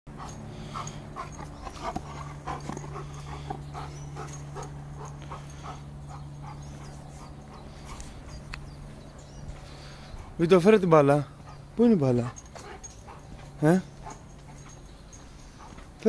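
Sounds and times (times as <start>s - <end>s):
dog panting quickly: 0.1s - 9.4s, 10.0s - 16.0s
steady low hum: 0.1s - 16.0s.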